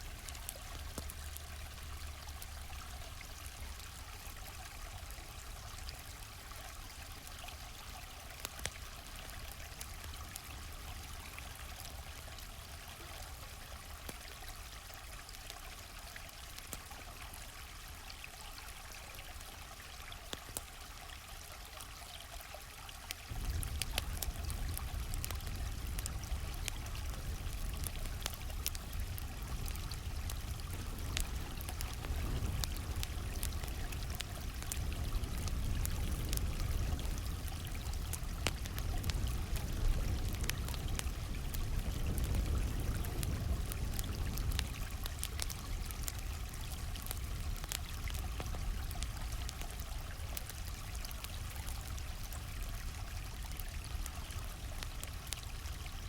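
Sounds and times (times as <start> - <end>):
campfire crackling: 0.0 - 56.0
stream flowing: 0.0 - 56.0.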